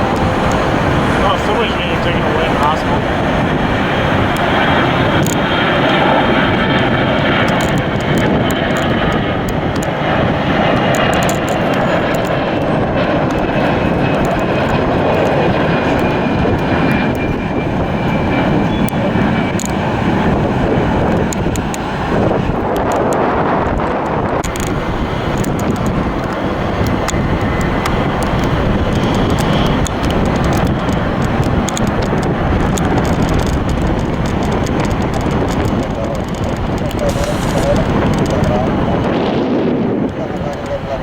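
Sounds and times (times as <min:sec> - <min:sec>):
jet engines passing: 0:00.0 - 0:41.0.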